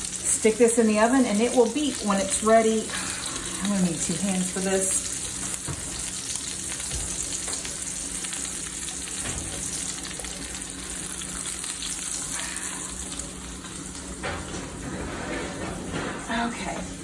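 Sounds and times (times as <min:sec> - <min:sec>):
butter sizzling in skillet: 0:00.0 - 0:14.8.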